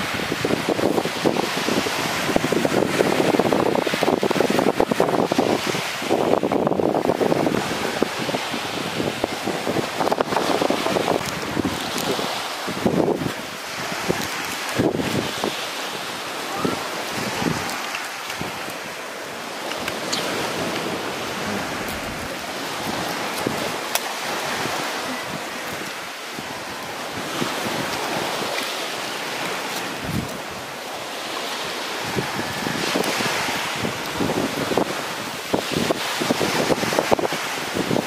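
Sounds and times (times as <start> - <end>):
waves washing onto shore: 0.0 - 38.0
wind buffeting microphone: 0.0 - 38.0.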